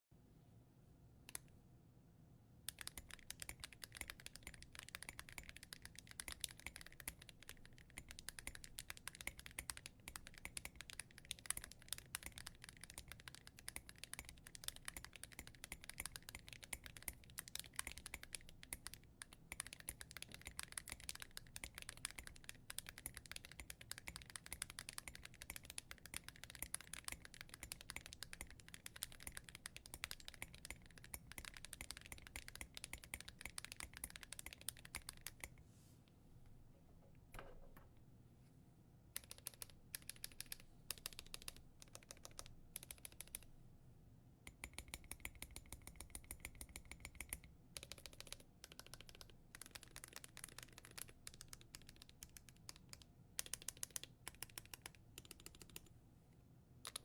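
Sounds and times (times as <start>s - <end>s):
fast mechanical keyboard typing: 2.7s - 35.5s, 39.2s - 43.4s, 44.5s - 55.9s.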